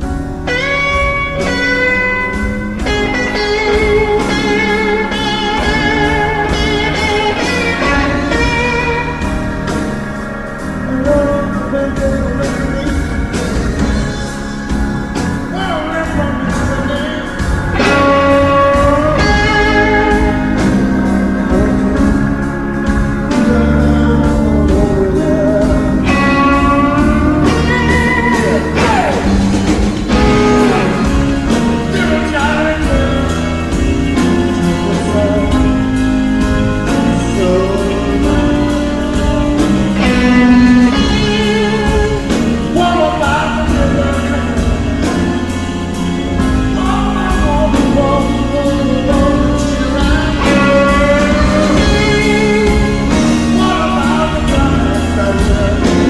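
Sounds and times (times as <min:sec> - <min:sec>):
electric blues band playing: 0:00.0 - 0:56.0.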